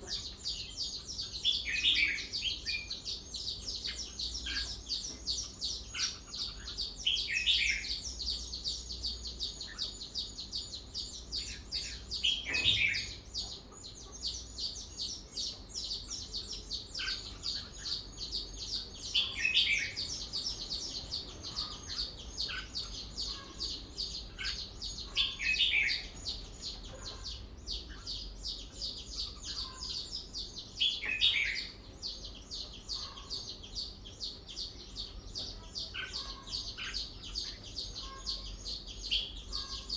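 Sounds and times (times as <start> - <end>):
bulbul singing loud phrases: 0.0 - 39.9
high-pitched bird chattering: 0.0 - 39.9.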